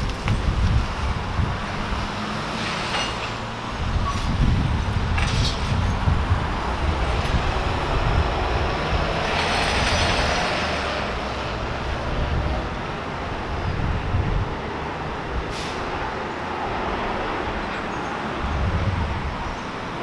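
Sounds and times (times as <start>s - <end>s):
hissing road noise: 0.0s - 20.0s
vehicle engines rumbling: 0.0s - 20.0s.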